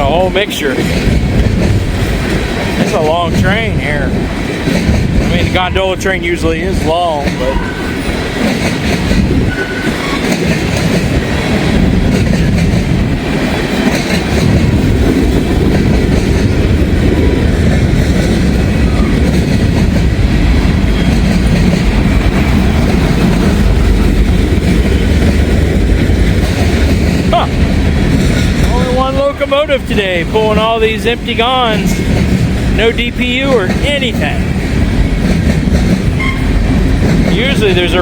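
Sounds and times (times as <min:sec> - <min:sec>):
freight train rolling past: 0:00.0 - 0:38.0.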